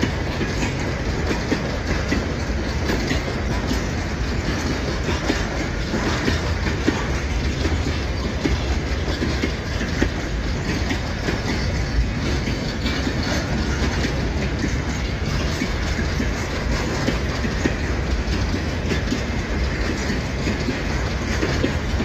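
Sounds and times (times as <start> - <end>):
train low rumble: 0.0 - 22.0
train wheels clattering over rail joints: 0.0 - 22.0.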